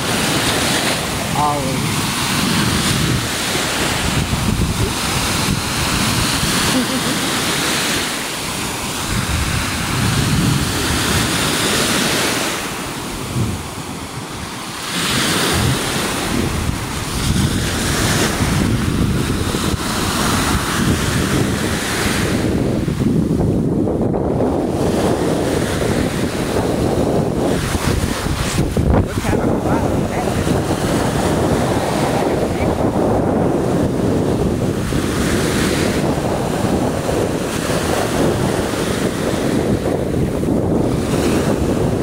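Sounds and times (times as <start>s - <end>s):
waves breaking: 0.0s - 42.0s
wind buffeting microphone: 0.0s - 42.0s.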